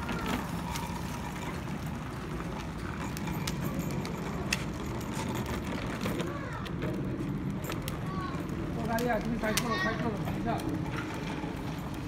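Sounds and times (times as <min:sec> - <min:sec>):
plastic wheels rolling on asphalt: 0:00.0 - 0:12.0.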